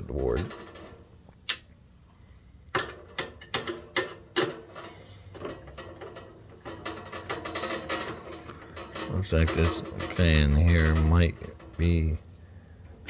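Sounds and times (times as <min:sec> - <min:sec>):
heater parts clicking and knocking: 0:00.0 - 0:01.7, 0:02.6 - 0:13.0.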